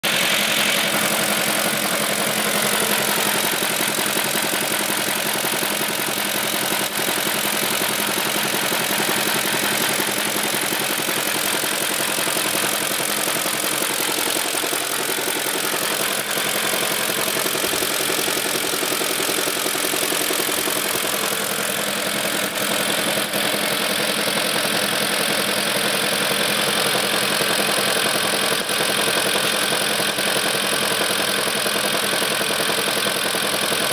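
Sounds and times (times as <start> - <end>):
car engine idling: 0.0 - 33.9
engine knocking: 0.0 - 33.9.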